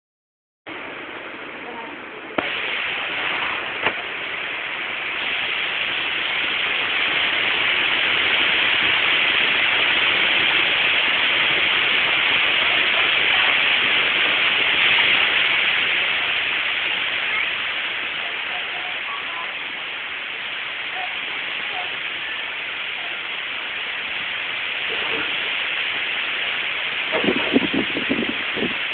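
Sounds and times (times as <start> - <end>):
high wind rushing: 2.4 - 28.9.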